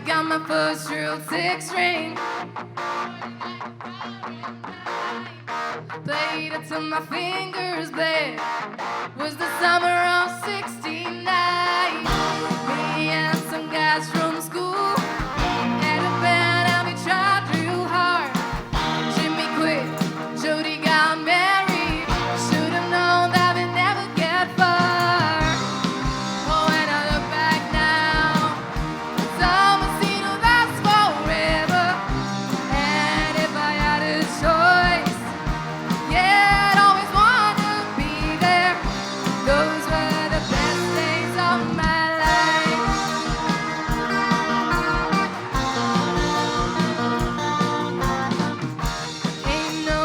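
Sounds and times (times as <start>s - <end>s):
rock guitar: 0.0s - 50.0s.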